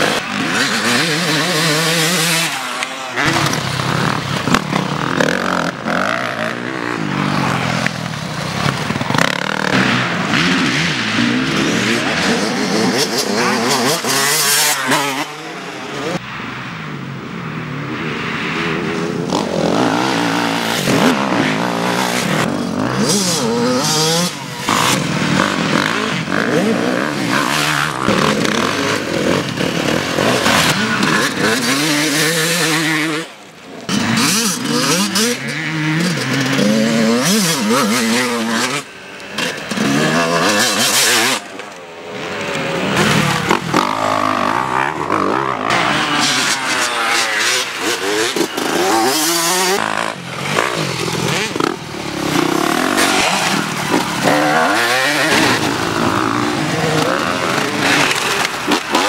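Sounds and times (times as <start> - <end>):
dirt bike engine revving: 0.0 - 16.2, 19.0 - 59.0.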